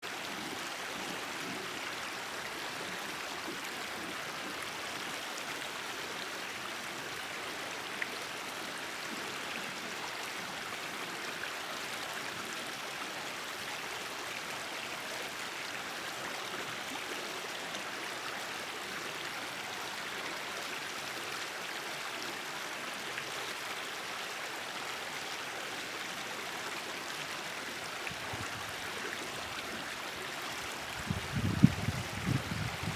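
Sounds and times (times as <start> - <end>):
water trickling in a stream: 0.0 - 32.9.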